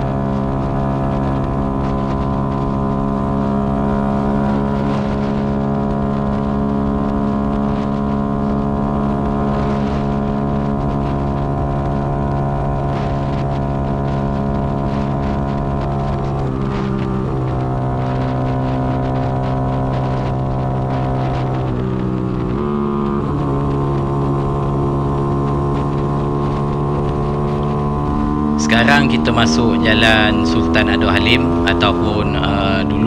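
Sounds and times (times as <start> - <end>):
motorcycle engine running: 0.0 - 33.0
wind and road noise: 0.0 - 33.0.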